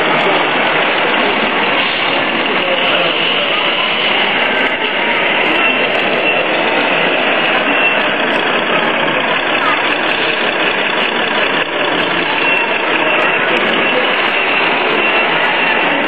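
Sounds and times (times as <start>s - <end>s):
din of voices: 0.0s - 16.0s
electronic diesel engine sound idling: 0.0s - 16.0s.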